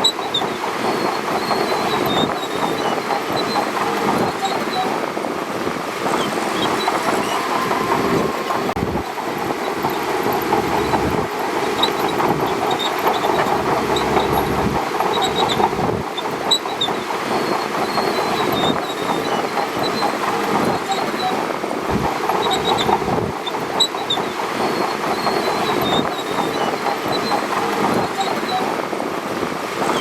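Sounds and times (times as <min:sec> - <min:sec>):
bulldozer engine running: 0:00.0 - 0:30.0
steel tracks clanking and squeaking: 0:00.0 - 0:30.0.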